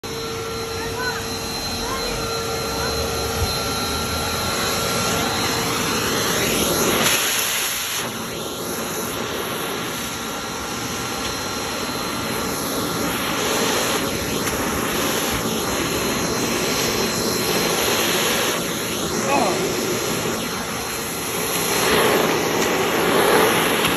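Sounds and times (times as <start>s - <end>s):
shop vacuum running: 0.0s - 23.9s.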